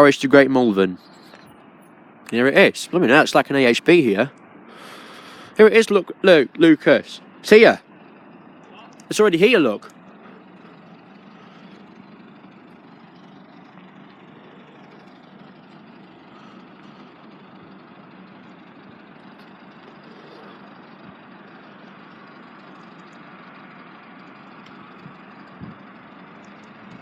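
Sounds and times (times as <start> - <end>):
train diesel engine idling: 0.0 - 27.0.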